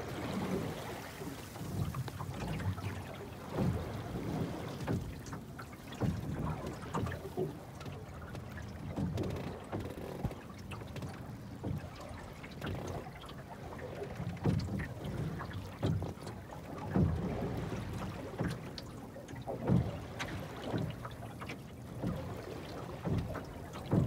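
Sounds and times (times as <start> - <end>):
water slapping against boat hull: 0.0 - 24.0.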